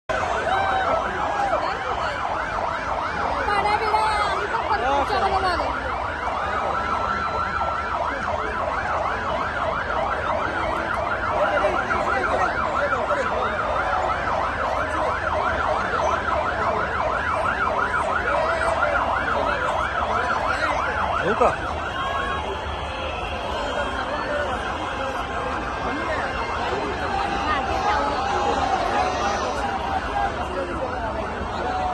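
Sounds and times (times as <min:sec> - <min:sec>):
fire engine sirens yelping: 0:00.1 - 0:31.9.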